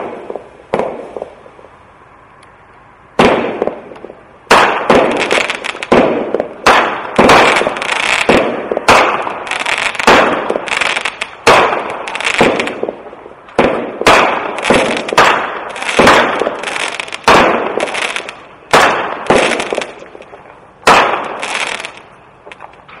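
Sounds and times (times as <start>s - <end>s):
firework bangs: 0.0s - 1.8s, 3.1s - 23.0s
firework crackling: 0.0s - 23.0s.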